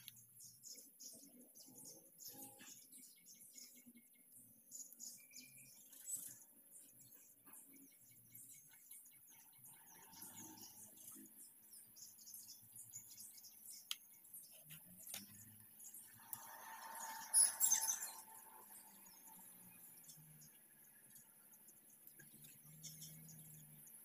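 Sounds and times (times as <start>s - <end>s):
faint high chirps: 0.0s - 24.0s.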